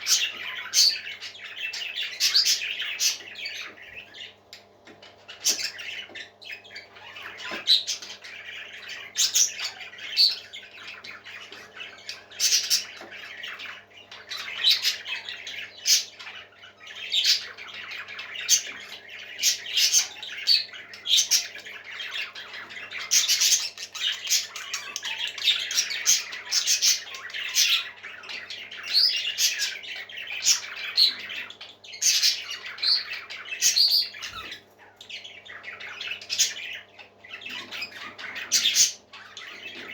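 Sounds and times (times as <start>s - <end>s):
parrots squawking: 0.0s - 4.4s, 5.0s - 39.9s.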